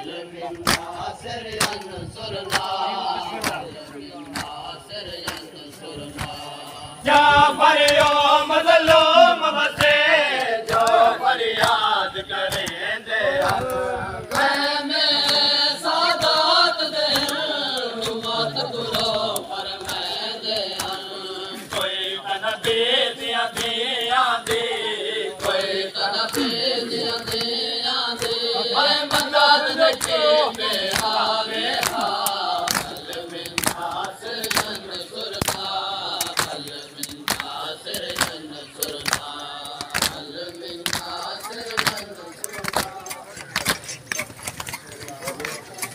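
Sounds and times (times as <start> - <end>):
men chanting a lament: 0.0 - 45.9
hand slaps on chests: 0.6 - 2.8, 3.4 - 45.6.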